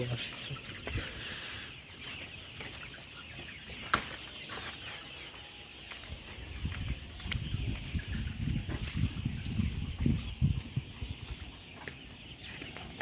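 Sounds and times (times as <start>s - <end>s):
hens clucking and calling: 0.0s - 13.0s.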